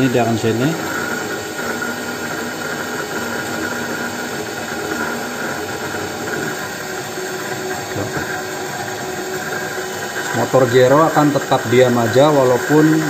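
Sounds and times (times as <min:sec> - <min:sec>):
gyro rotor whirring: 0:00.0 - 0:13.0.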